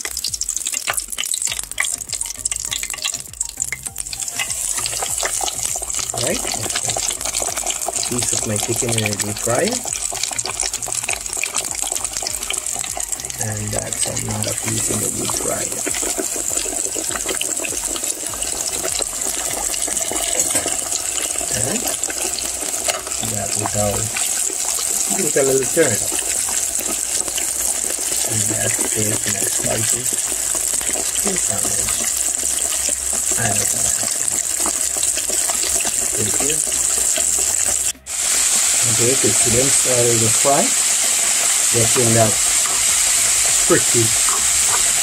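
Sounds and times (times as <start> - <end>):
chicken frying in oil: 0.0 - 45.0.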